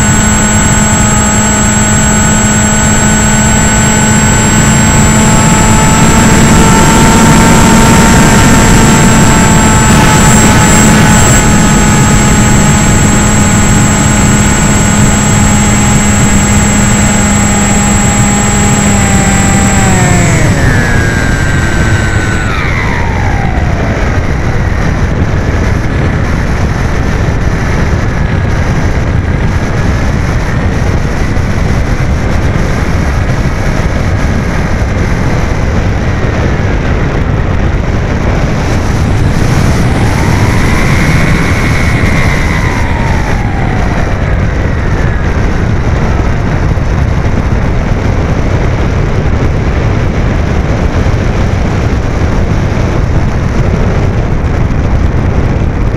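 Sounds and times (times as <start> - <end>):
electric motor whine: 0.0 - 55.9
wind rushing over camera: 0.0 - 55.9.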